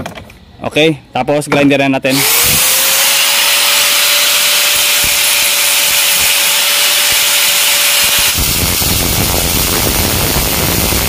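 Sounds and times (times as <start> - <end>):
angle grinder whining: 2.1 - 11.0
grinder disc grinding steel shaft: 2.1 - 11.0.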